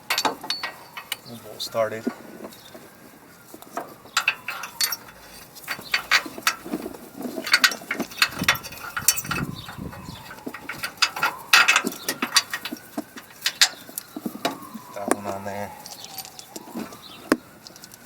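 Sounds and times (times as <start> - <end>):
hand tools clinking on metal: 0.0 - 2.8, 3.6 - 18.0.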